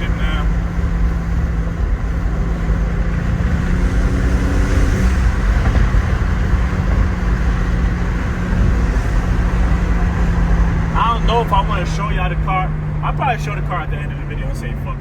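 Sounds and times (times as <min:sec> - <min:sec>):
car engine drone: 0:00.0 - 0:15.0
tyre and road noise: 0:00.0 - 0:15.0.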